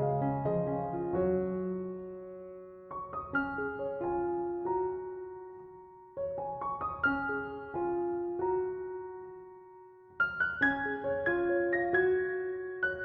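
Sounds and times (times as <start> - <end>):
soft solo piano: 0.0 - 13.0.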